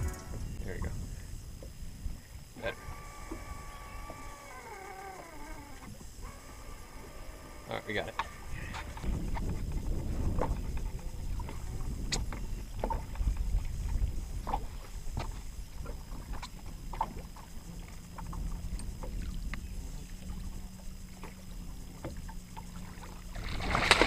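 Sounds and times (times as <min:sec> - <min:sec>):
faint low hum: 0:00.0 - 0:24.0
knocks and clicks in boat: 0:00.0 - 0:24.0
water moving around boat: 0:00.0 - 0:24.0
wind rumble on microphone: 0:00.0 - 0:24.0.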